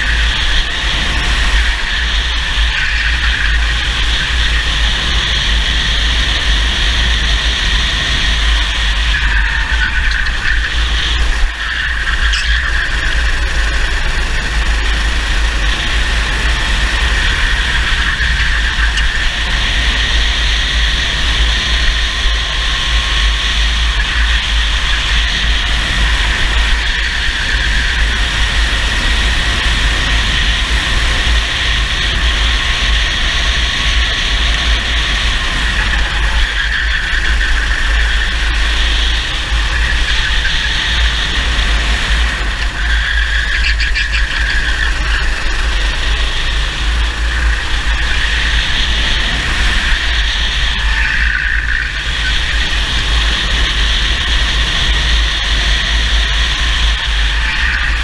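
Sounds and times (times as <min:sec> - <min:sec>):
kart engine at speed: 0:00.0 - 0:58.0
wind rumble on microphone: 0:00.0 - 0:58.0.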